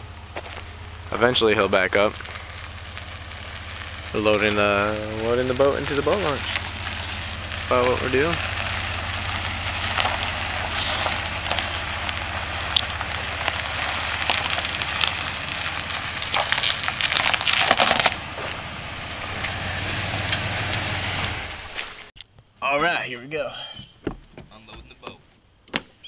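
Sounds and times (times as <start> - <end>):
tires crunching on gravel ramp: 0.0 - 22.1
truck engine hum: 0.0 - 22.2.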